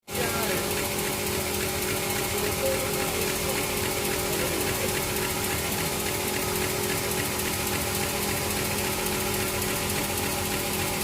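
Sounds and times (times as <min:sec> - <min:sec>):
sawmill motor hum: 0:00.1 - 0:11.0.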